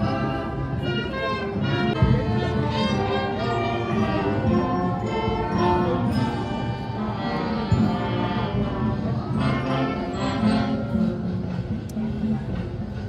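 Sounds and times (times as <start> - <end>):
orchestral music sustained chords: 0.0 - 13.0.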